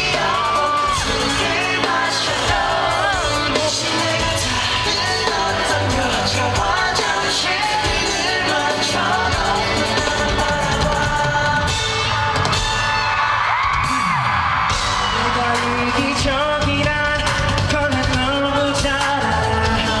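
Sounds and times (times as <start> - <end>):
backing band playing: 0.0 - 20.0
man singing pop song live: 0.0 - 20.0.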